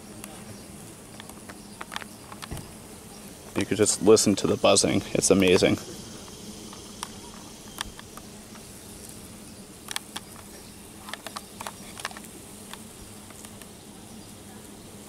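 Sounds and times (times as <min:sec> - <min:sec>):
wasps buzzing in flight: 0:00.0 - 0:15.0.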